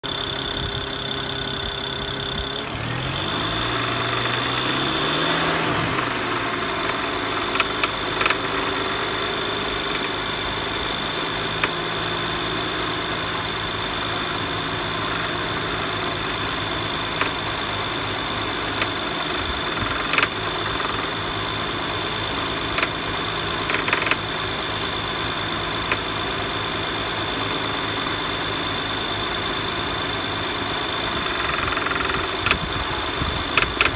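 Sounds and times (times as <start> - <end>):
car engine idling: 0.0 - 33.9
clanks and ticks from engine: 5.8 - 12.4, 13.0 - 33.9.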